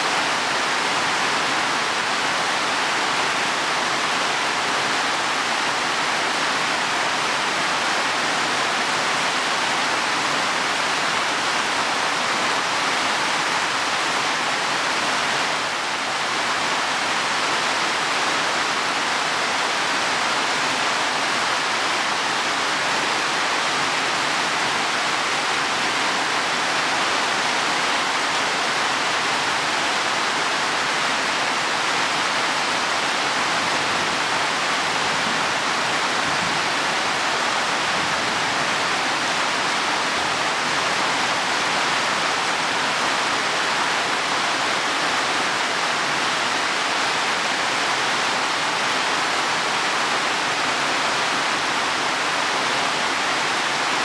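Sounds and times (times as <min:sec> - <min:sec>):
heavy rain on leaves and soil: 0:00.0 - 0:54.0.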